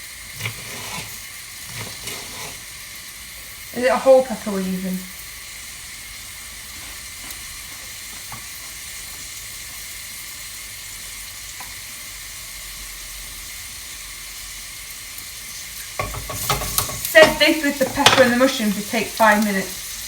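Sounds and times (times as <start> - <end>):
onion sizzling in a pan: 0.0 - 20.0.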